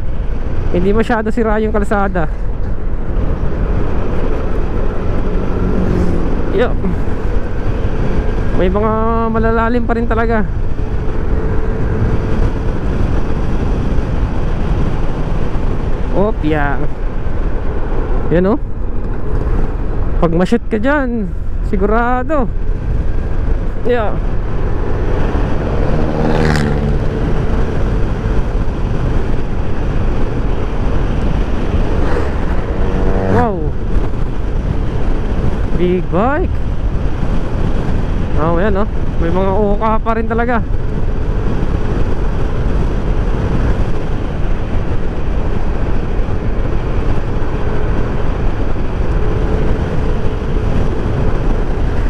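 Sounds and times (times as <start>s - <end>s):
wind rumble on microphone: 0.0s - 52.0s.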